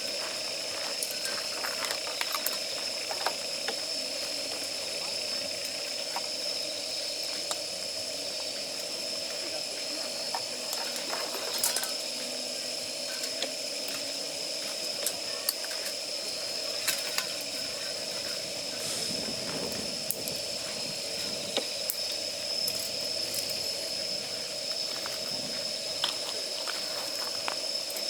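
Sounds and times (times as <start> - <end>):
gas burner hiss: 0.0 - 28.0.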